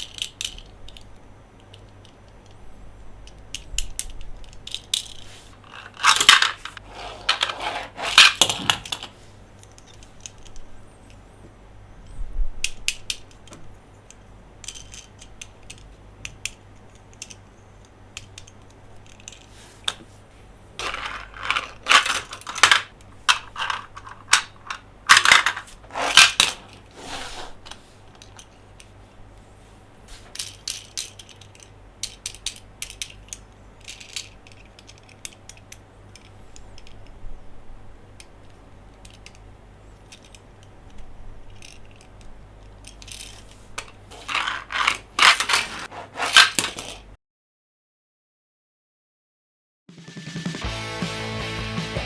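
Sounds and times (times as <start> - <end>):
plastic toys clicking and rattling: 0.0 - 11.2, 12.0 - 20.0, 20.8 - 27.0, 27.6 - 29.0, 30.2 - 47.1.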